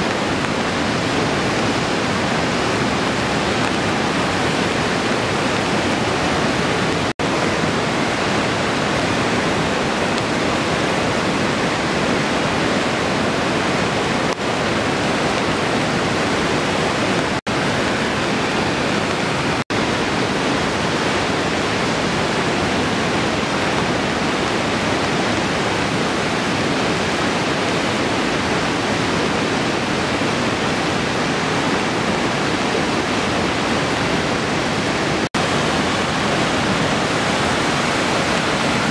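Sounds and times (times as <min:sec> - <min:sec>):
river in flood rushing: 0:00.0 - 0:38.9.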